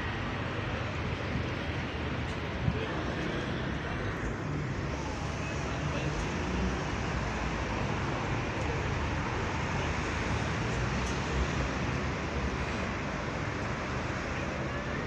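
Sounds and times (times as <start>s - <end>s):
cars passing on city road: 0.0s - 15.0s.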